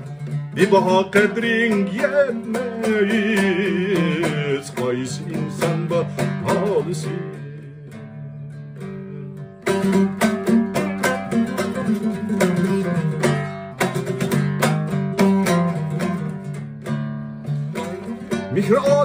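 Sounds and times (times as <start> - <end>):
long-necked lute playing: 0.0 - 19.0.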